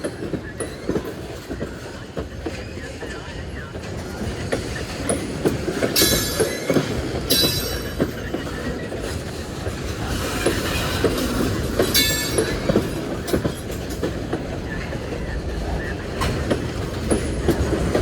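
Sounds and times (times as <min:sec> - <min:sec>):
train wheels clacking over rail joints: 0:00.0 - 0:18.0.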